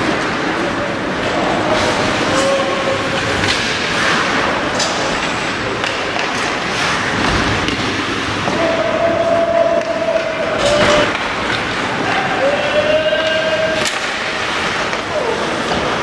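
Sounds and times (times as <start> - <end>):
arena noise: 0.0 - 16.0
sticks clacking on puck: 1.3 - 16.0.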